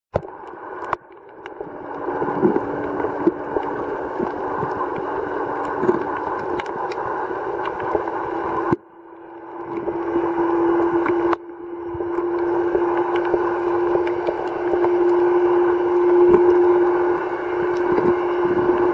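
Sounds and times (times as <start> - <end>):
crackling clicks: 0.2 - 8.8, 9.6 - 11.4, 12.1 - 18.9
underwater boat engine hum: 0.2 - 18.9.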